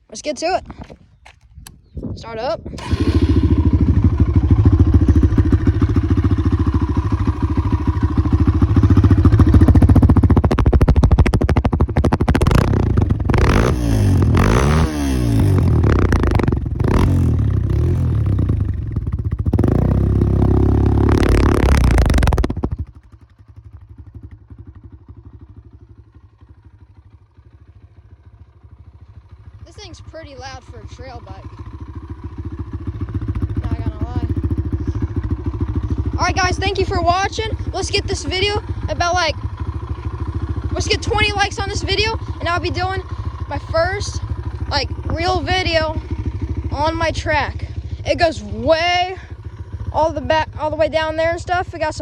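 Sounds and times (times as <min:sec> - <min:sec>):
motorcycle engine idling: 0:02.7 - 0:52.0.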